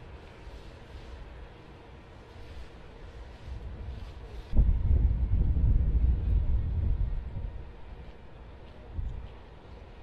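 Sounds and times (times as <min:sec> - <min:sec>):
street noise hiss: 0:00.0 - 0:10.0.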